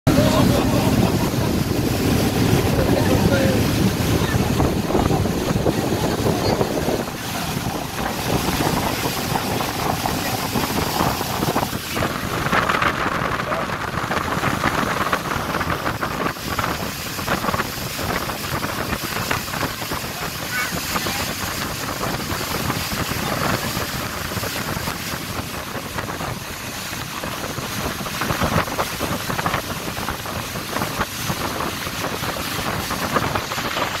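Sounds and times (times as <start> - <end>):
boat running noise: 0.0 - 34.0
churning boat wake: 0.0 - 34.0
wind buffeting microphone: 0.1 - 34.0.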